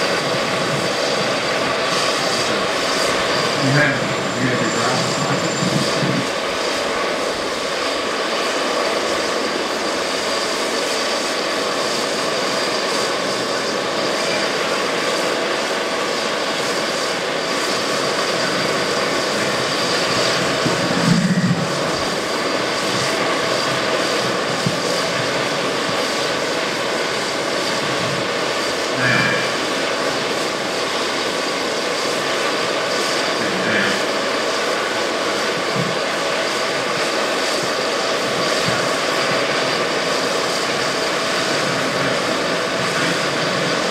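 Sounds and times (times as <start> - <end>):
helicopter turbine whine: 0.0 - 43.9.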